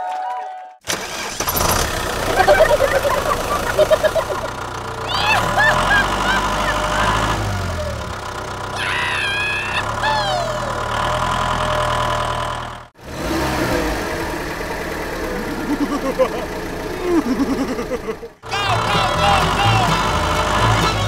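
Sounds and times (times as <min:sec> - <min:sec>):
tractor engine idling: 0:00.9 - 0:13.0, 0:13.8 - 0:21.0.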